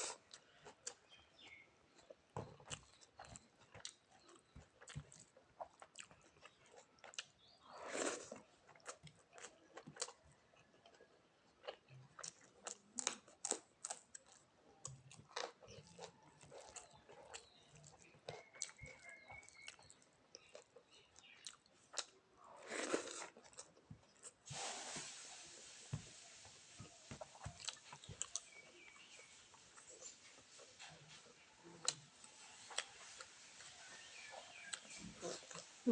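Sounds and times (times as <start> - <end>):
person chewing food: 0.0 - 24.4, 25.0 - 35.9.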